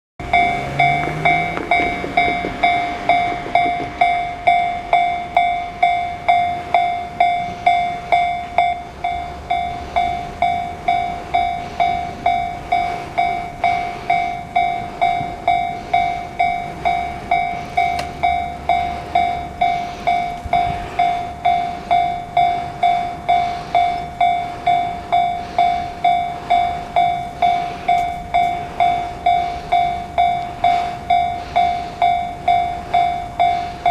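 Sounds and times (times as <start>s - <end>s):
level crossing electronic warning bell: 0.2s - 33.9s.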